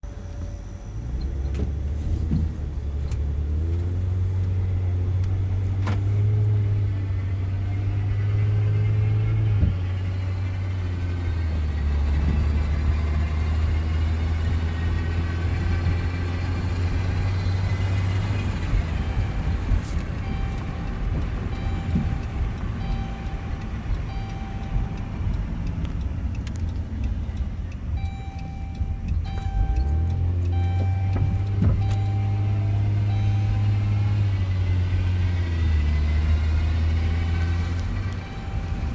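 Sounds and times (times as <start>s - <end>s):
car engine drone: 0.0s - 38.9s.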